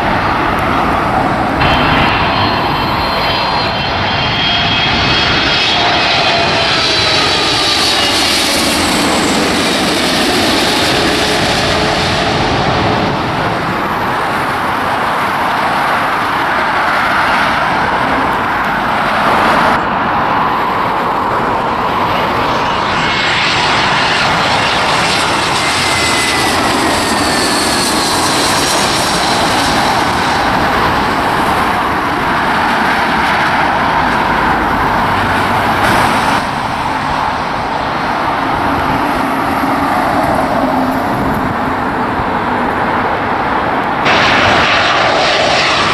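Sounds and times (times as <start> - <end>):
jet airliner roaring overhead: 0.0 - 45.9
jet engine whine: 0.0 - 45.9.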